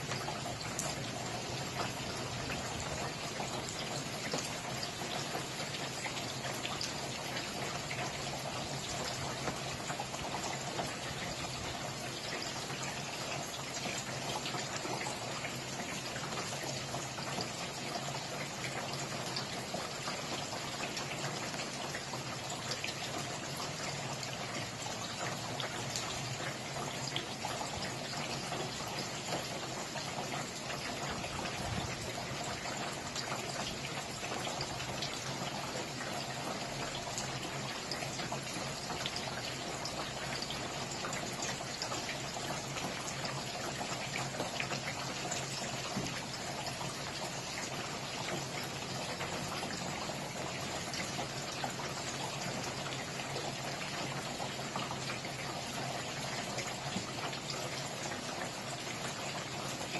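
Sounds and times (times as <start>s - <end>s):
steady rain falling: 0.0s - 59.9s
trickle of running water: 0.0s - 59.9s.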